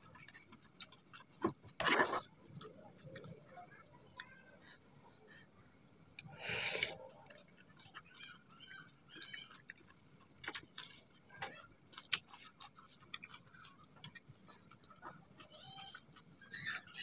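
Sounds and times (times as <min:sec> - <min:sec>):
person chewing noodles: 0:00.0 - 0:05.2, 0:06.2 - 0:16.9.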